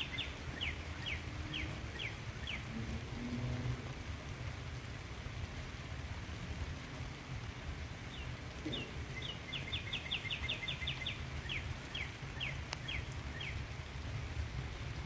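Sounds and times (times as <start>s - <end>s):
light rain hiss: 0.0s - 15.0s
songbird singing: 0.0s - 15.0s.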